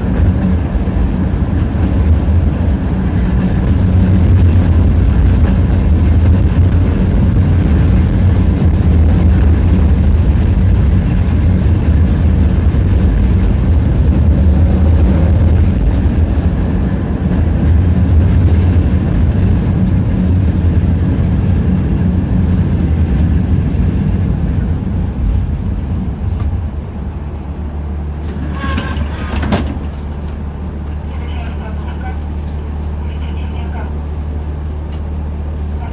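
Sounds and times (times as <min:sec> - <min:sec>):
tram motors and wheels rumbling: 0:00.0 - 0:35.9.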